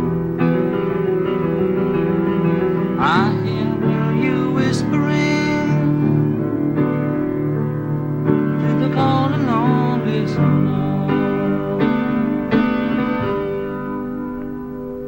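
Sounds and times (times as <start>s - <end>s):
song with piano and singing: 0.0s - 15.0s.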